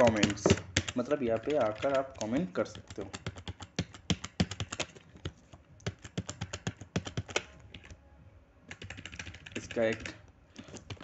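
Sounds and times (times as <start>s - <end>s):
computer keyboard typing: 0.0s - 8.0s, 8.7s - 11.0s.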